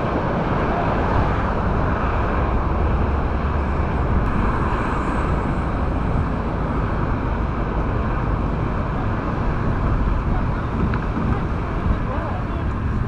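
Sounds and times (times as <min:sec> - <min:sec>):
vehicle engine: 0:00.0 - 0:13.0
wind noise: 0:00.0 - 0:13.0.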